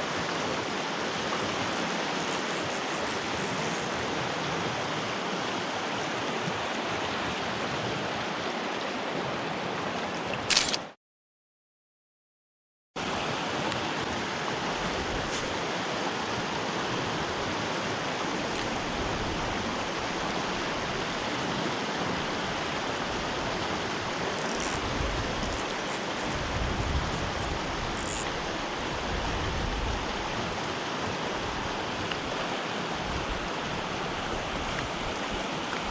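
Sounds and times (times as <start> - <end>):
stream rushing: 0.0 - 11.0, 13.0 - 35.9.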